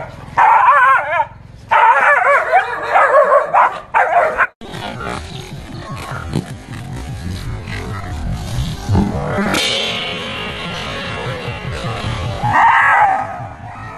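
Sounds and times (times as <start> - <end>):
mixed background noise: 0.0 - 13.9.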